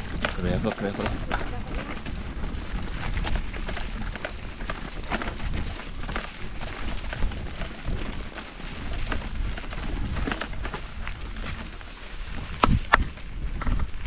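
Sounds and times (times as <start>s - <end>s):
bike clacking over bumps: 0.0s - 14.0s
bike rattling: 0.0s - 14.0s
bike tyres crunching on gravel: 0.0s - 14.0s.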